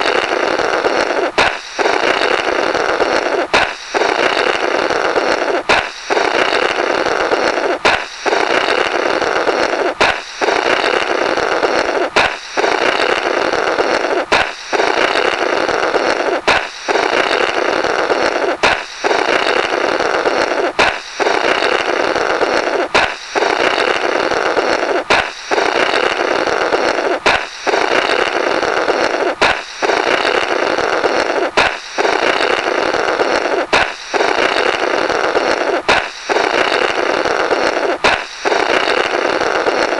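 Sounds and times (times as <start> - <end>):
balloon popping: 0.0 - 39.9
rasping blowing through balloon: 0.0 - 39.9.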